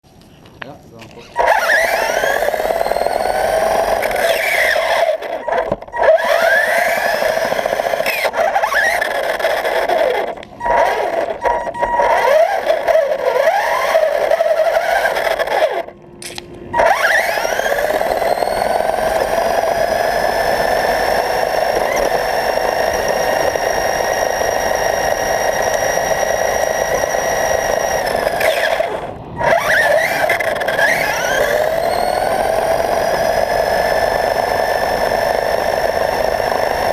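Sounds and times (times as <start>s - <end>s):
rc car motor whining: 1.1s - 15.9s, 16.7s - 36.9s.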